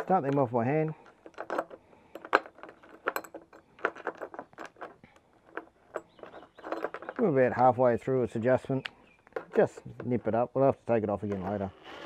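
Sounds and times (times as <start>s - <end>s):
metal bolts clicking and clinking: 0.0s - 10.4s.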